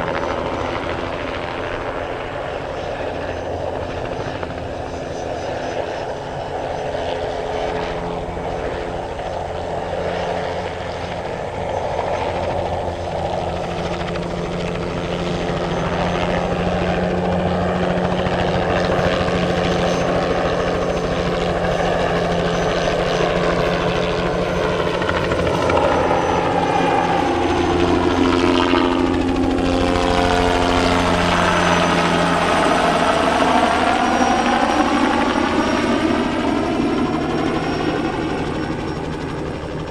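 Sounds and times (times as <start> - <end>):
helicopter flying low: 0.0 - 39.9.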